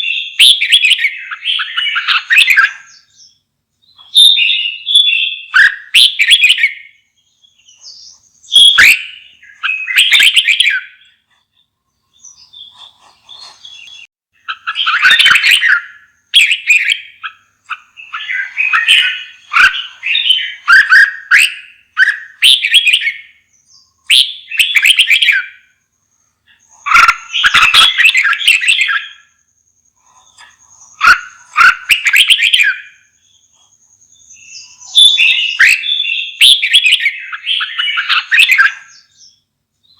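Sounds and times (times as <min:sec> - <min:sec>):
bird singing warbling phrases: 0:00.0 - 0:39.9.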